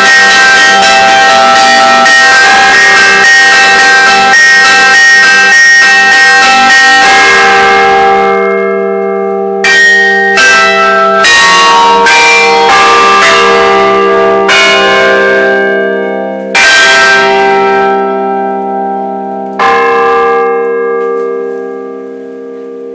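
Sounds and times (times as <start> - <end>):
church bells ringing: 0.0 - 22.9
deep steady bell tone: 0.0 - 22.9.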